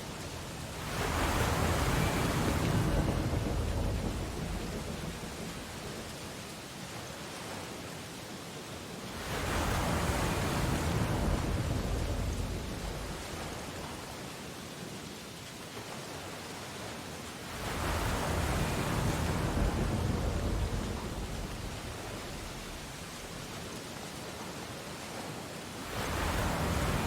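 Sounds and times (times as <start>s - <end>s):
ocean waves breaking: 0.0s - 7.9s, 9.0s - 14.3s, 15.9s - 27.0s.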